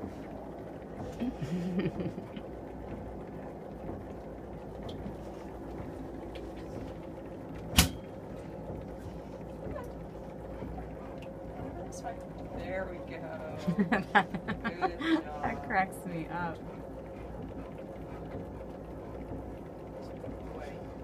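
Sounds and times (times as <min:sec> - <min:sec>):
treadmill motor hum: 0:00.0 - 0:21.0.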